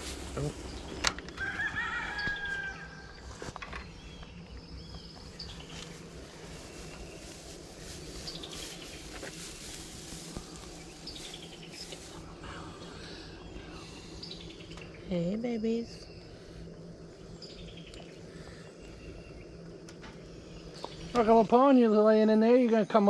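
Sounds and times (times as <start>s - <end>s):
insects humming: 0.0s - 23.0s.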